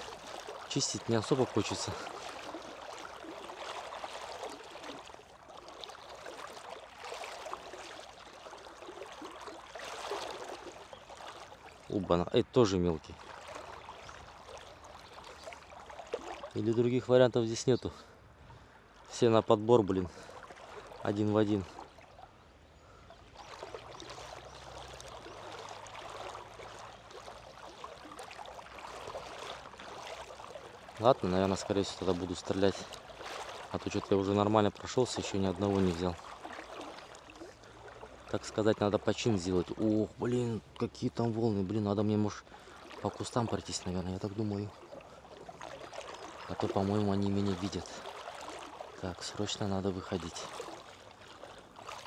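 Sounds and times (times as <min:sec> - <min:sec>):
water sloshing and trickling: 0:00.0 - 0:52.0.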